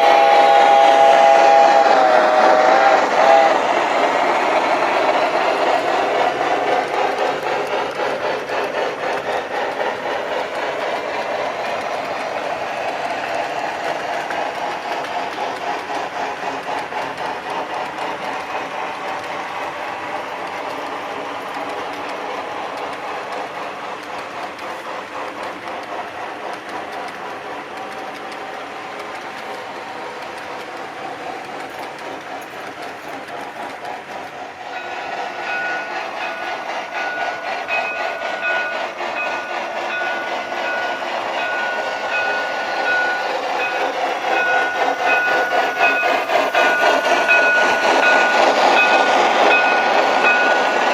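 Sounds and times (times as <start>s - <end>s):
model train wheels clicking: 0.0s - 50.9s.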